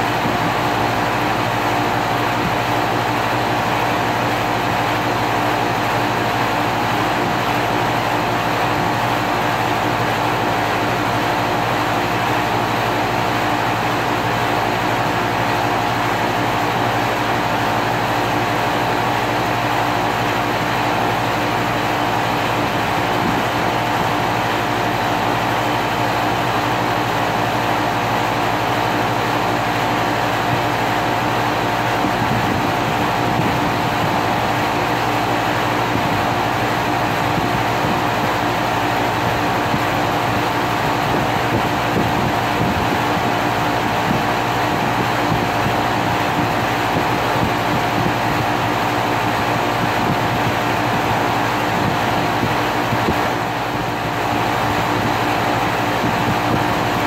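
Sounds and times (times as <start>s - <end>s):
air conditioner unit humming: 0.0s - 57.0s.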